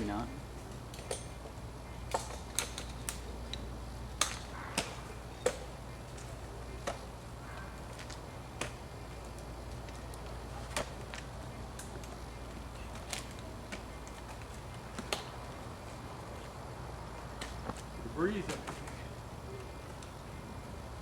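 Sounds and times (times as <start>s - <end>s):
branches snapping: 2.1s - 16.6s, 17.2s - 20.2s.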